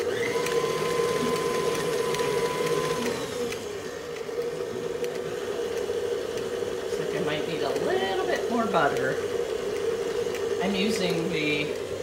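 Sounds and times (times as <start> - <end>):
stand mixer running: 0.0 - 12.0
thin motor whine: 0.0 - 12.0.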